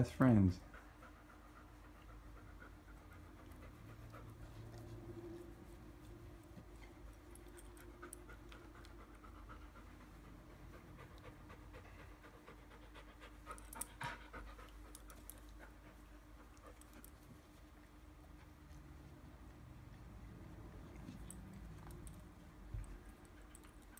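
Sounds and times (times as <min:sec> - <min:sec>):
dog panting: 0:00.2 - 0:23.9.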